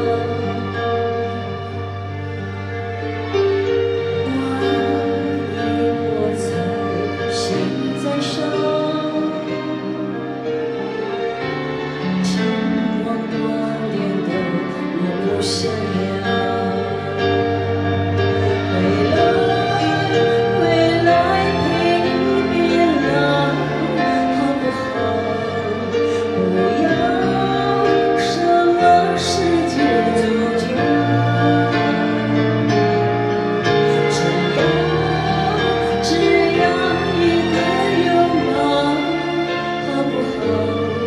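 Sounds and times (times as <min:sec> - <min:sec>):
woman singing: 0:00.0 - 0:01.5, 0:04.1 - 0:10.3, 0:12.2 - 0:33.1, 0:33.7 - 0:41.0
instrumental accompaniment: 0:00.0 - 0:41.0.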